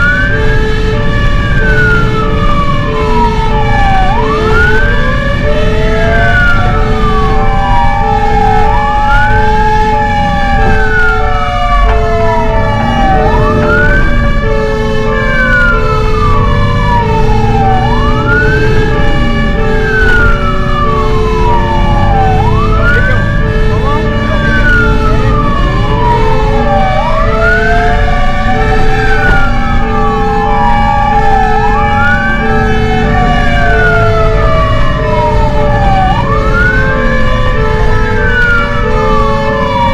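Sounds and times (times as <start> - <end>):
fire engine siren wailing: 0.0 - 39.9
second siren glide: 0.0 - 39.9.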